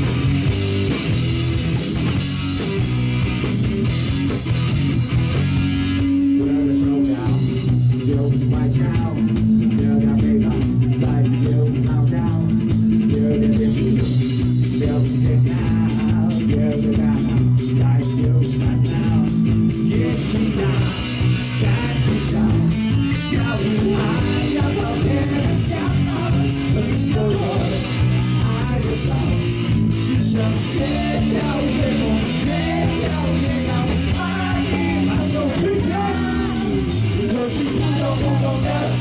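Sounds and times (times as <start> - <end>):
drum kit beat: 0.0 - 39.0
rock band playing: 0.0 - 39.0.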